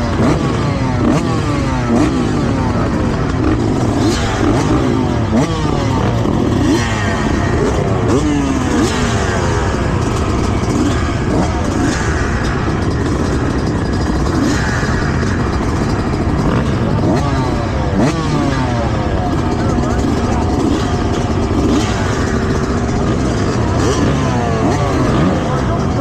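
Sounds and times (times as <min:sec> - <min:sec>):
motocross bikes revving: 0:00.0 - 0:26.0.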